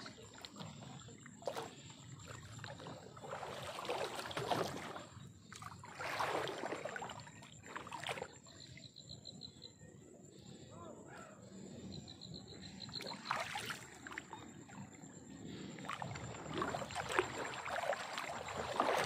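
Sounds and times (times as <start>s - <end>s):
water sloshing around a boat: 0.0s - 10.7s, 11.4s - 19.0s.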